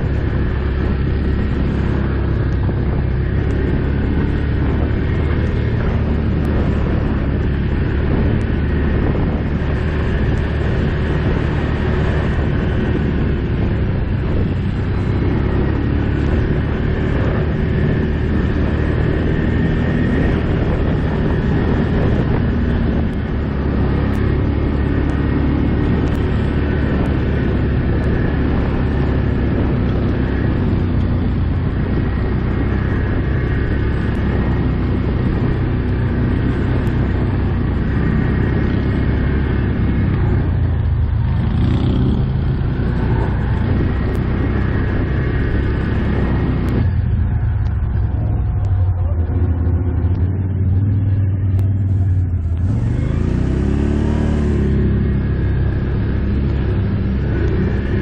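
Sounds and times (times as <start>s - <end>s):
quad bike engine droning: 0.0s - 58.0s.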